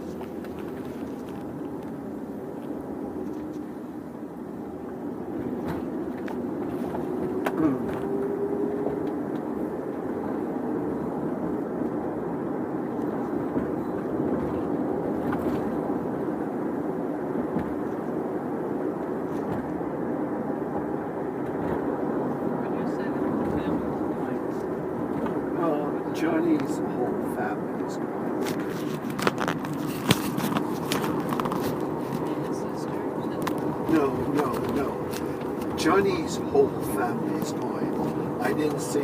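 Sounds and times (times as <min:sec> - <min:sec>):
car cabin road and engine noise: 0:00.0 - 0:39.0.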